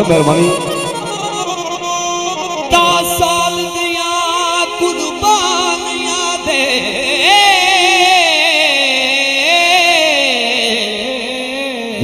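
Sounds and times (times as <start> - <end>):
harmonium: 0.0 - 12.0.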